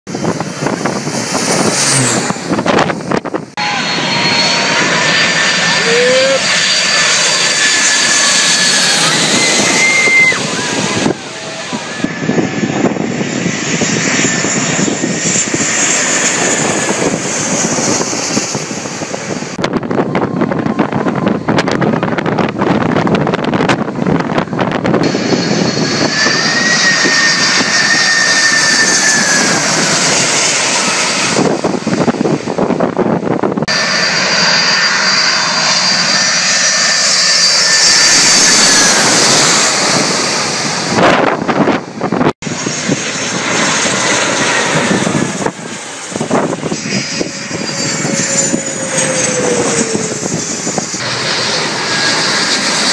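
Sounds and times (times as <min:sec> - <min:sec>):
jet airliners passing overhead: 0:00.1 - 0:52.9.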